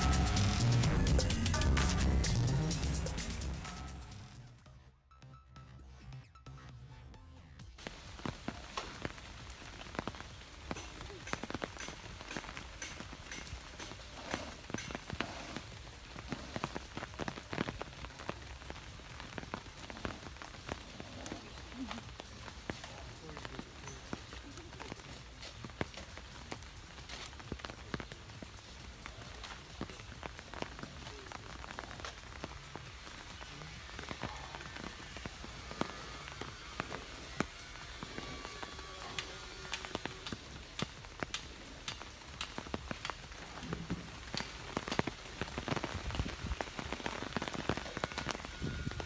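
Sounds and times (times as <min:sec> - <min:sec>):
rain pattering: 0:00.0 - 0:04.4, 0:07.8 - 0:49.0.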